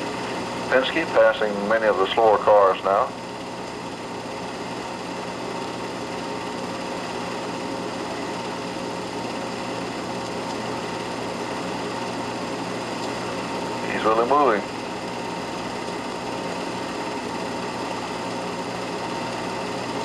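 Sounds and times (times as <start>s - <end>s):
film projector whirring: 0.0s - 20.0s.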